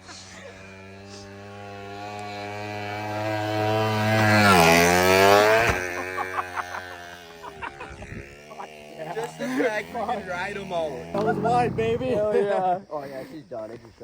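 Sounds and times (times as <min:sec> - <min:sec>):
small motorbike engine passing by: 0:00.6 - 0:12.4.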